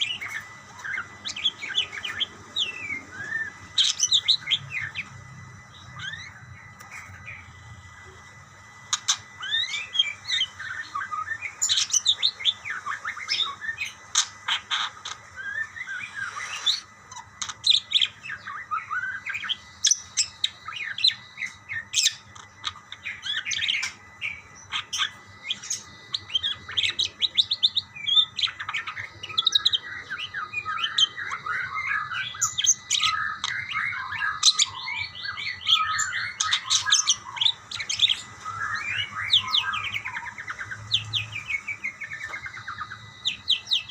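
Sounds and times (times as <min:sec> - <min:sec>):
budgerigars chirping and warbling: 0:00.0 - 0:07.5, 0:08.9 - 0:43.9
faint steady hum: 0:00.0 - 0:43.9.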